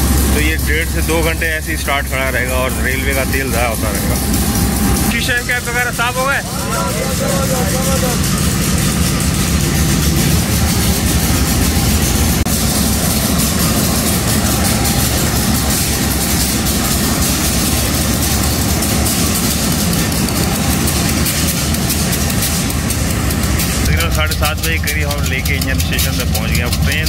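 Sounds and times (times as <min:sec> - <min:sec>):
locomotive engine idling: 0:00.0 - 0:27.0.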